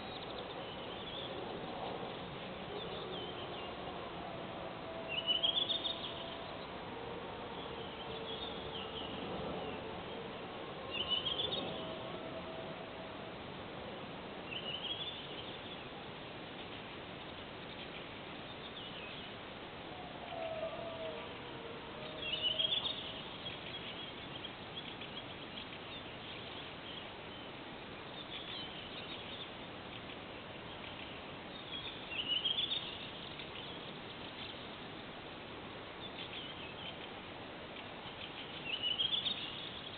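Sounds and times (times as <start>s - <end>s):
background hiss: 0.0s - 39.9s
faint drawn-out lower tones: 0.0s - 39.9s.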